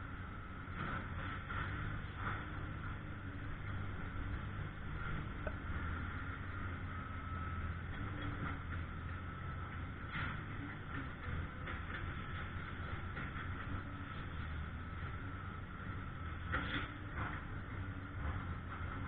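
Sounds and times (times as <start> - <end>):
heavy machinery engine humming: 0.0 - 19.0.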